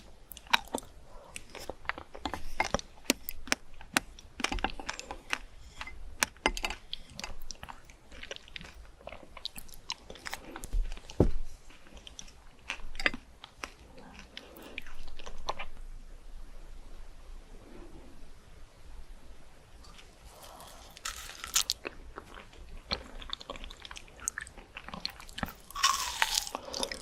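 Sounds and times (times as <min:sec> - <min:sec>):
fruit being chewed crunching: 0:00.0 - 0:15.8, 0:19.8 - 0:27.0.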